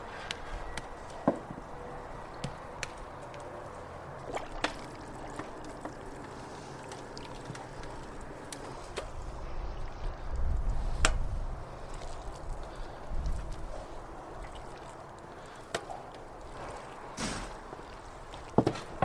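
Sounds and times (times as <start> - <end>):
broth bubbling: 3.1 - 18.6.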